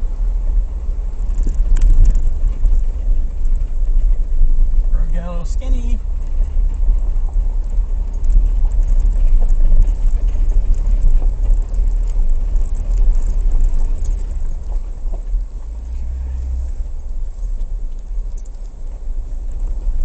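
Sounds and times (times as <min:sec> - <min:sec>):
engine and tyres rumbling: 0:00.0 - 0:20.0
small ticks and rattles: 0:01.1 - 0:20.0.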